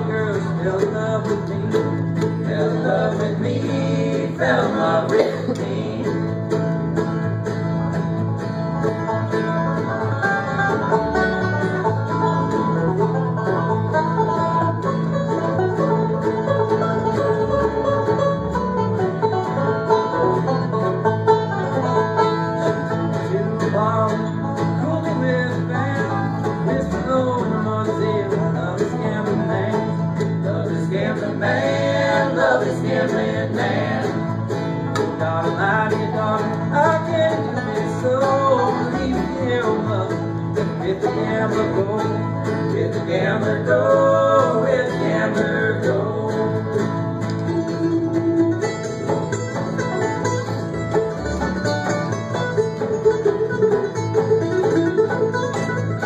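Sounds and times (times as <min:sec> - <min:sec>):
bluegrass band playing: 0:00.0 - 0:56.0.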